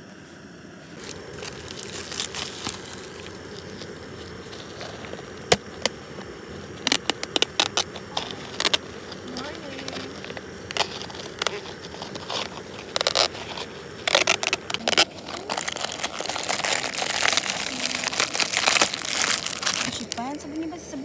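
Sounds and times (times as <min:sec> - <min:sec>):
plastic packet crinkling: 0:00.9 - 0:20.4
paper lid tearing: 0:01.0 - 0:06.0, 0:06.8 - 0:20.3.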